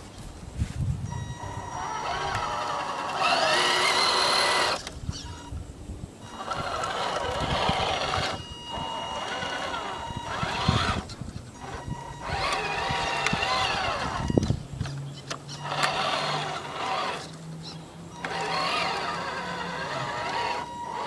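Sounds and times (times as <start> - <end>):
toy truck electric motor whining: 1.2 - 5.6, 6.2 - 21.0.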